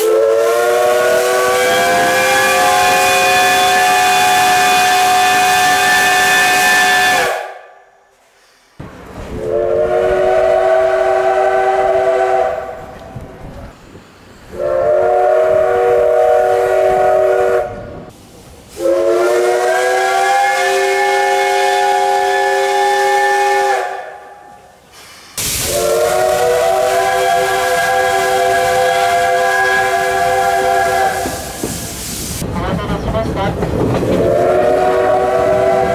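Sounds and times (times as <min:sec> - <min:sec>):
steam locomotive whistle blasts: 0:00.0 - 0:07.8, 0:09.4 - 0:12.8, 0:14.5 - 0:17.9, 0:18.7 - 0:31.6, 0:34.1 - 0:35.9.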